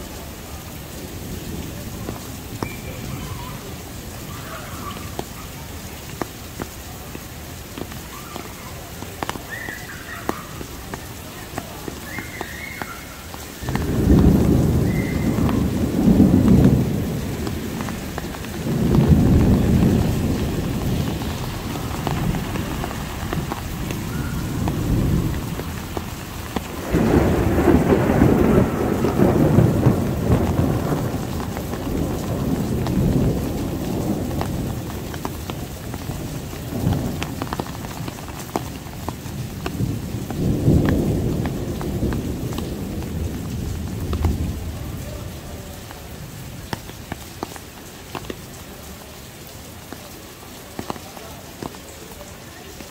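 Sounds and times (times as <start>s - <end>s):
thunder rumbling: 0.0s - 47.2s
heavy rain pouring: 0.0s - 52.9s.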